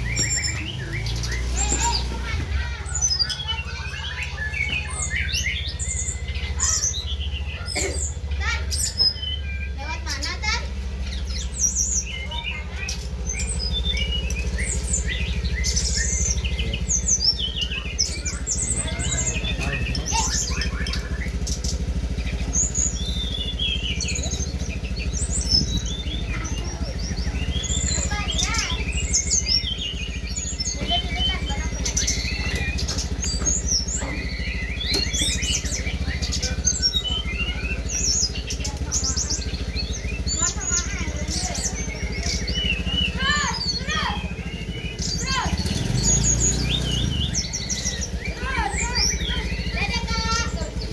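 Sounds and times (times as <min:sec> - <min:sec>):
songbirds chirping and trilling: 0:00.0 - 0:50.9
steady low rumble: 0:09.8 - 0:50.9.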